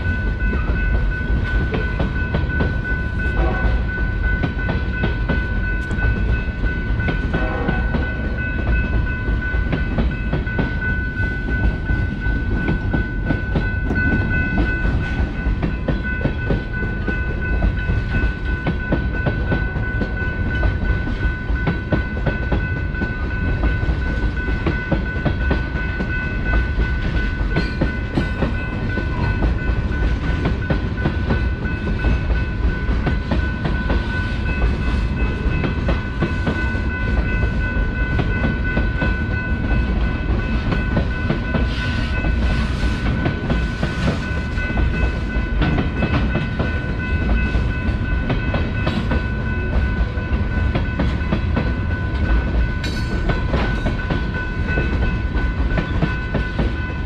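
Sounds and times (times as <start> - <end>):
freight train rumbling: 0.0 - 57.0.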